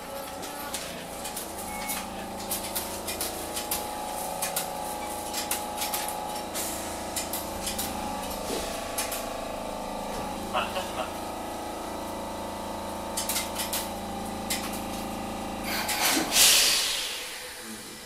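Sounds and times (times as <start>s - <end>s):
tram motor whine: 0.0s - 18.0s.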